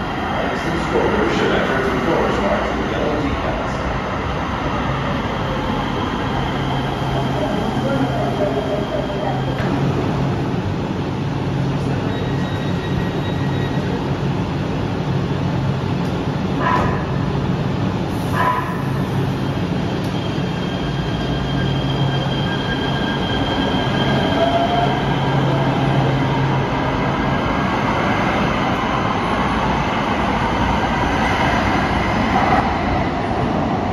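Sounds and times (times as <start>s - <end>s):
train running hum: 0.0s - 33.9s.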